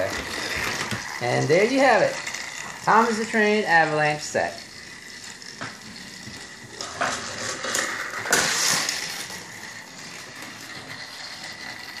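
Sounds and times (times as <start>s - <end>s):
toy train whine: 0.0s - 12.0s.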